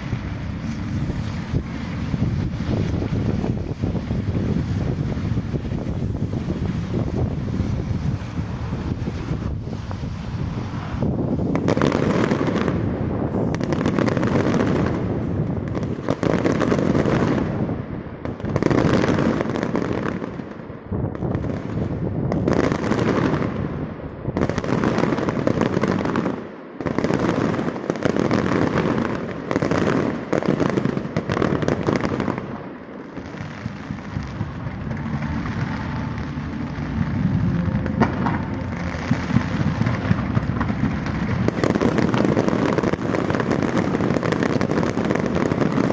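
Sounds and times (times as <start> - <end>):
fireworks bursting: 0.0 - 45.9
small sharp firework crackles: 0.0 - 45.9.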